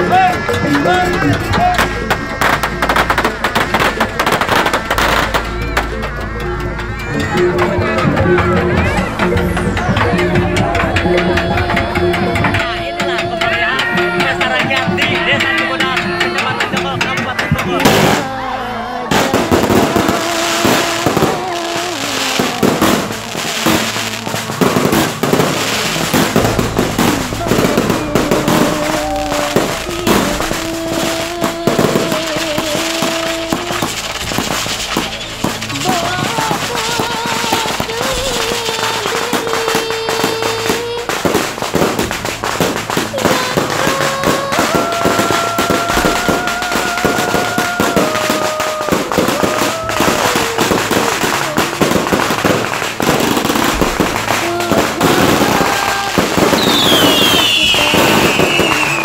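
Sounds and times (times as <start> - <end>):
fireworks cracking and banging: 0.0 - 59.0
music playing: 0.0 - 59.0.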